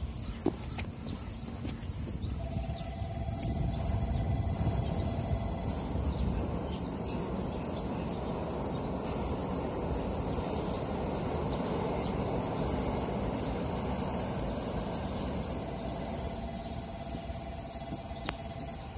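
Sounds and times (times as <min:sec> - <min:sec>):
electric train rumbling: 0:00.0 - 0:18.9
high-pitched insect buzz: 0:02.2 - 0:18.9.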